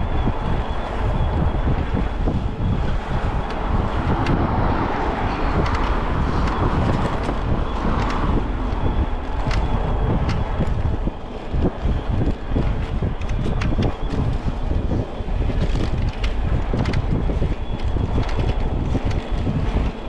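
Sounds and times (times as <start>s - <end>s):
road rumble: 0.0s - 20.0s
wind buffeting microphone: 0.0s - 20.0s.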